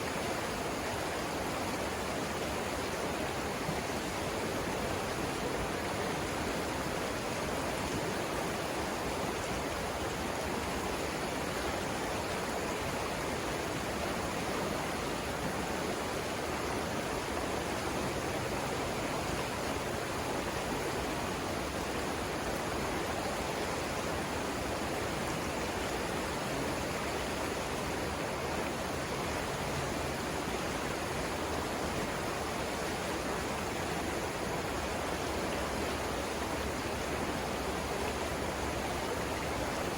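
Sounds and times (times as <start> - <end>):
river flowing over rapids: 0.0 - 39.9.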